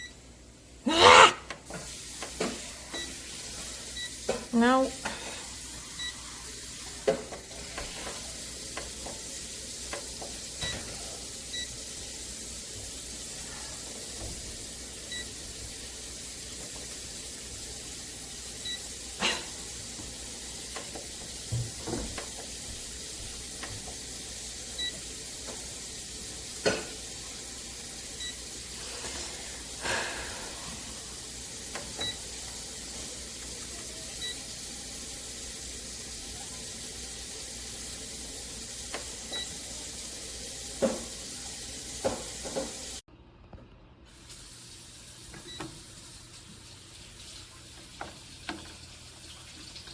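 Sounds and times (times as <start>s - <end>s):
oven hissing: 0.0s - 43.1s
food sizzling: 0.8s - 43.1s.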